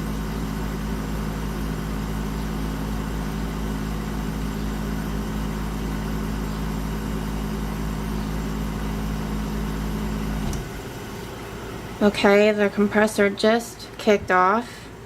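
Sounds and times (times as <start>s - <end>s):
air conditioner compressor humming: 0.0s - 15.0s
air conditioner fan hiss: 0.0s - 15.0s.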